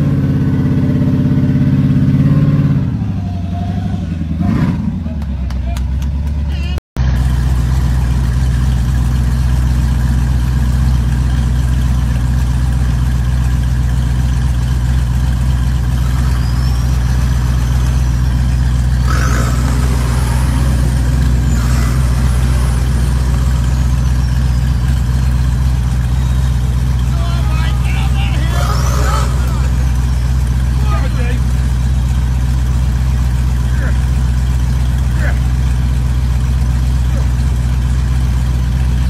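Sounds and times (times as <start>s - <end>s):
engine surges: 0.0s - 39.0s
truck engines droning: 0.0s - 39.0s.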